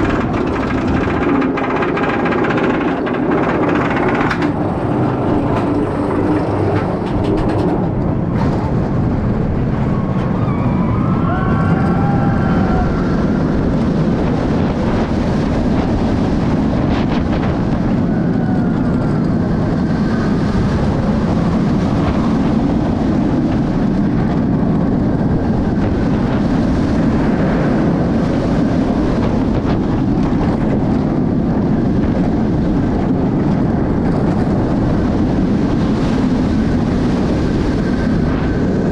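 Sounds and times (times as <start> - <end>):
roller coaster rumbling on track: 0.0 - 38.9.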